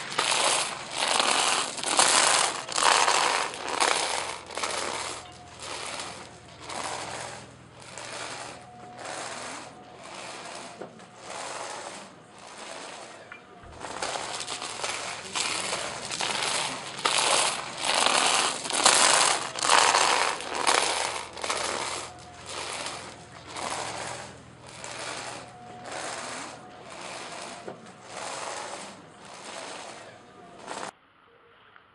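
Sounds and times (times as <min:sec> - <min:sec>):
footsteps shuffling on paving: 0:00.0 - 0:30.9.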